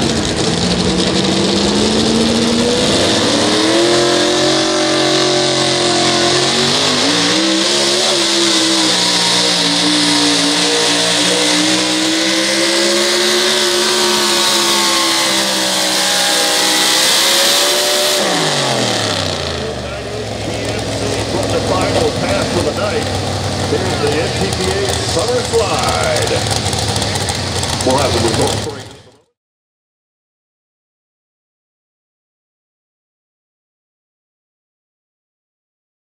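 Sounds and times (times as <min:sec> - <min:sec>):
truck engine revving: 0:00.0 - 0:29.3.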